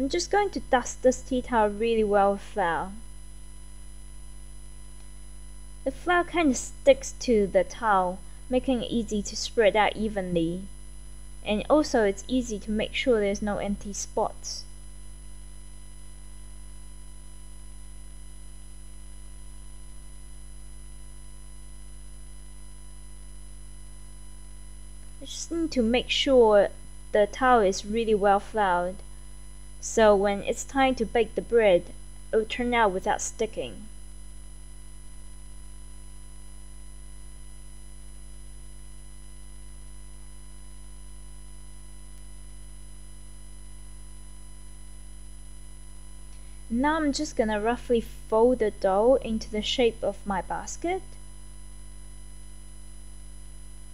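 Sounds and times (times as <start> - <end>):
low electrical hum with tones: 0.0 - 53.9.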